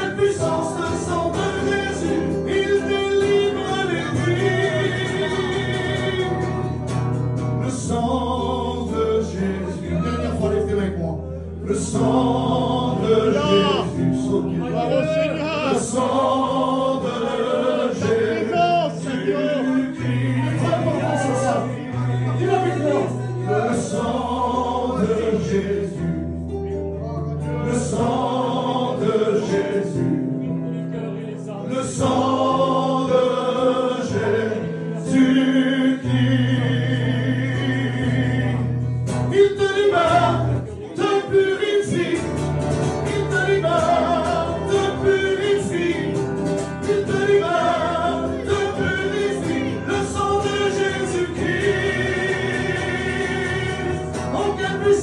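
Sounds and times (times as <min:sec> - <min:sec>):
men singing a hymn: 0:00.0 - 0:26.7, 0:27.4 - 0:55.0
acoustic guitar: 0:00.0 - 0:55.0.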